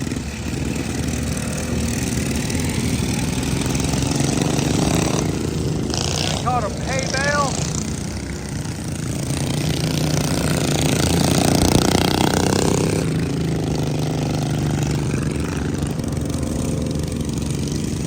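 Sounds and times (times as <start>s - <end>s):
lawn mower engines running: 0.0s - 18.0s.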